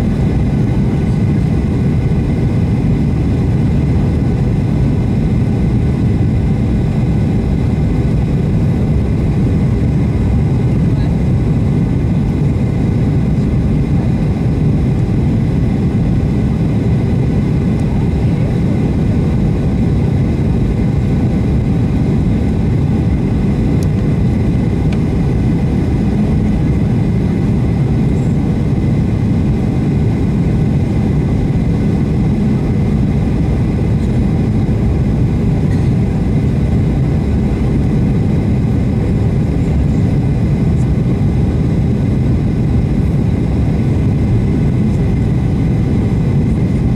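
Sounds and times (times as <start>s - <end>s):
aircraft cabin engine rumble: 0.0s - 46.9s.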